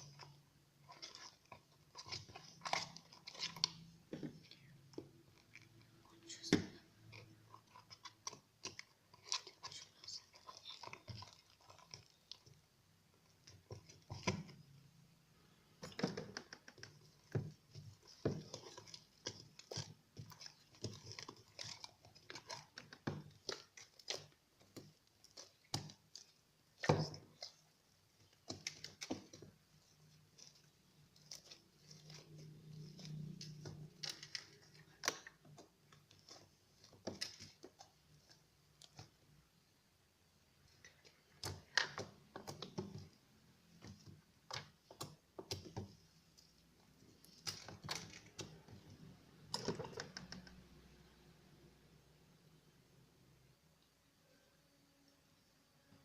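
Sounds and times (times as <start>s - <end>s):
slime squelching by hand: 0.0s - 51.1s.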